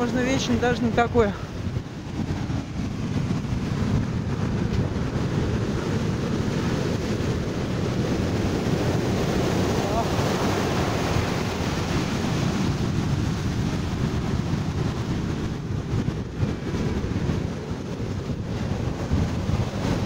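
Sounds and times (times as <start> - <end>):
surf breaking on sand beach: 0.0 - 20.0
wind buffeting microphone: 0.0 - 20.0.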